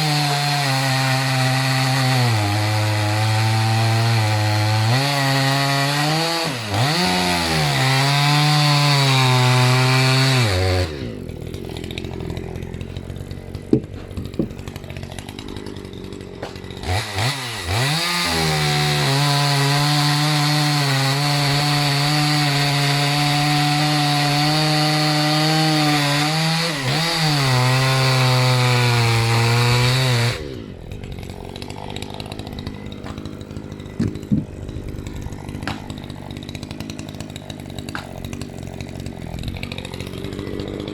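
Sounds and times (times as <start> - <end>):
chainsaw cutting wood: 0.0 - 40.9
chainsaw idling: 0.0 - 40.9.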